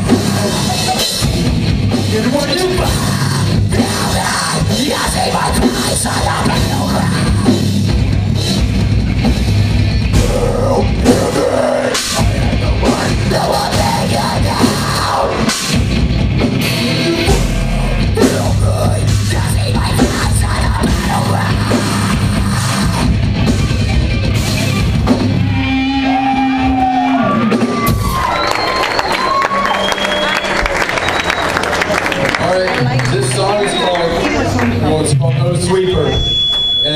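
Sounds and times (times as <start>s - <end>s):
distorted guitars: 0.0s - 28.8s, 31.0s - 36.9s
drum kit: 0.0s - 33.4s
bass guitar: 0.0s - 36.9s.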